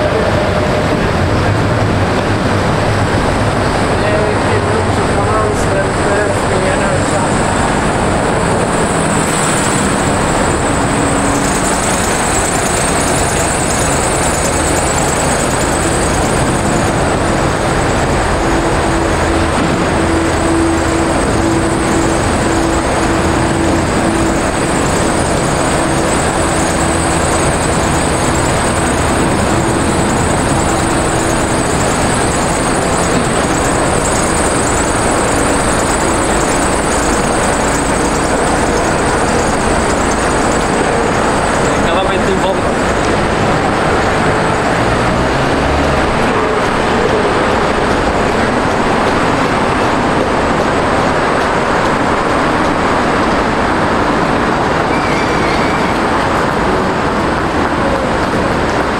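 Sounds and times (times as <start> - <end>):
passing motor vehicles: 0.0 - 58.9
steady hum: 0.0 - 58.9.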